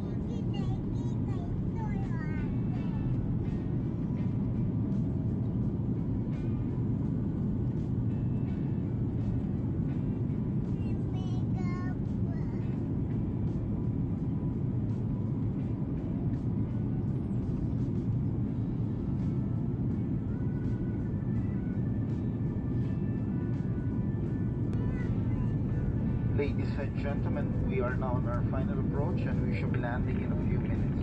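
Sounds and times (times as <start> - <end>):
jet engine and airflow rumble: 0.0 - 31.0.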